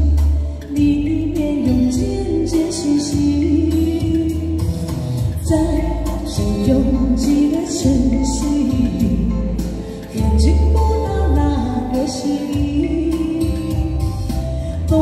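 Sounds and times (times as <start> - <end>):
backing track with deep bass: 0.0 - 15.0
woman singing into a microphone: 0.0 - 15.0.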